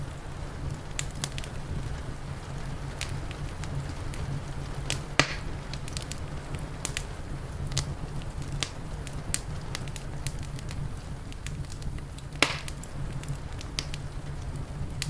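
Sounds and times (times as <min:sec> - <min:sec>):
steady low rumble: 0:00.0 - 0:15.0
wood fire crackling and popping: 0:00.0 - 0:15.0.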